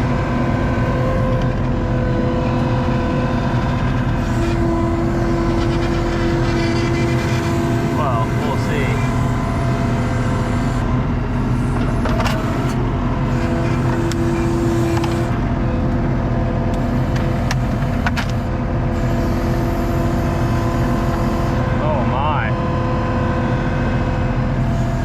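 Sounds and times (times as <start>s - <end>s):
diesel engine running under load: 0.0s - 25.0s
hydraulics whining: 0.0s - 25.0s.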